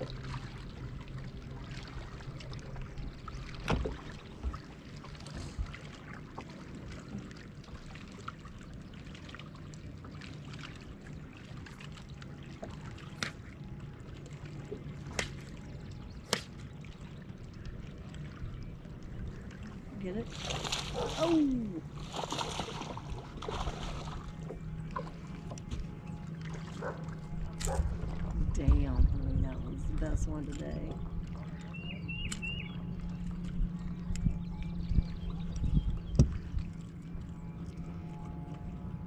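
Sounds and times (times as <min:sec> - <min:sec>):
waves lapping against boat hull: 0:00.0 - 0:39.0.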